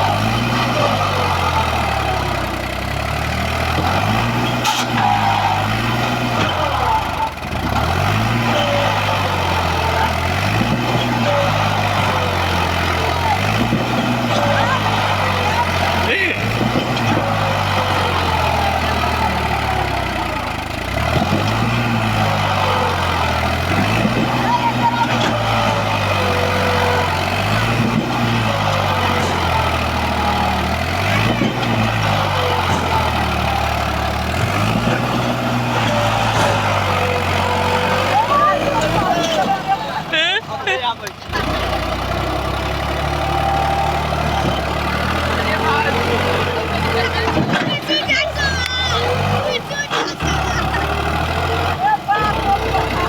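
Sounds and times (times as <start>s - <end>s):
diesel tractor engine droning: 0.0s - 53.0s.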